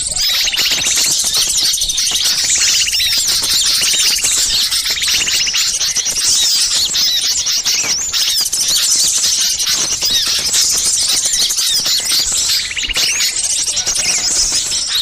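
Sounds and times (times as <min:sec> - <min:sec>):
songbirds chattering: 0:00.0 - 0:15.0.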